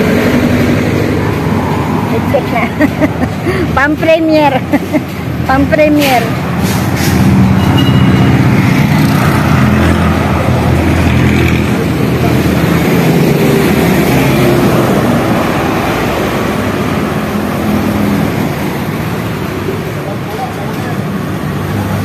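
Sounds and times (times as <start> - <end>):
vehicles passing close by: 0.0 - 22.0.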